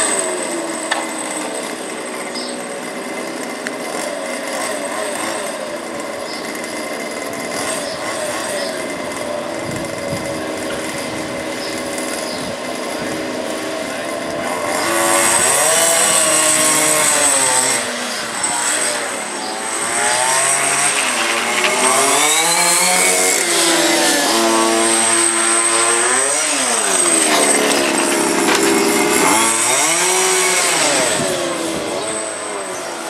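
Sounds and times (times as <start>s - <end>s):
small race car engines revving: 0.0s - 33.0s.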